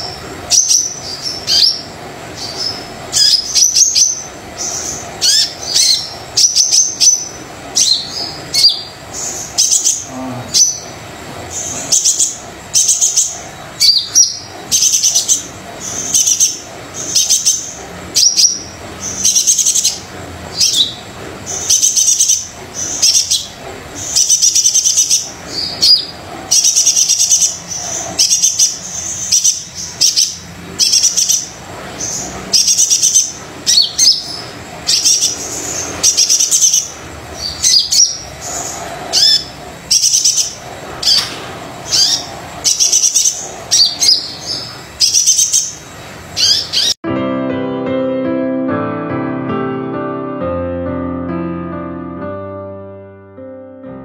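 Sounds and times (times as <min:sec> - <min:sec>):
bird twittering: 0:00.0 - 0:47.0.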